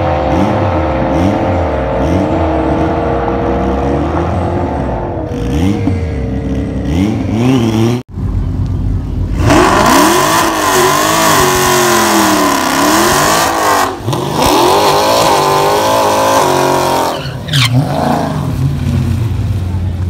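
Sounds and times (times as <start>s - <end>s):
car engine revving: 0.0s - 8.1s, 9.3s - 20.0s.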